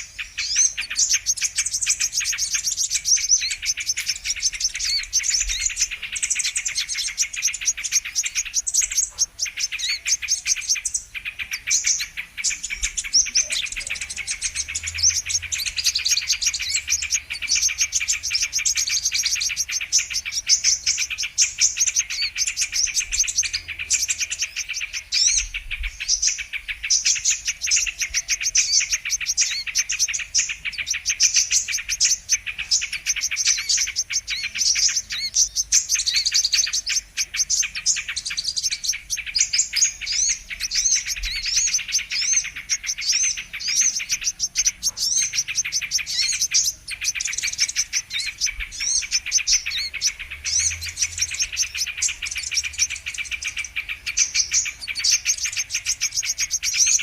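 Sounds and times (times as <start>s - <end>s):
sunbirds twittering: 0.0s - 57.0s.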